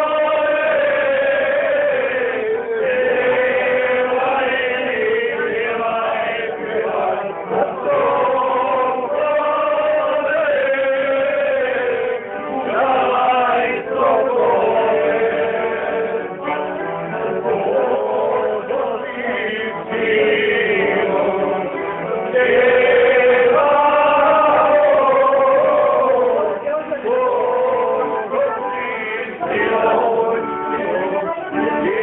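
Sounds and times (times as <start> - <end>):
men singing together: 0.0 - 32.0.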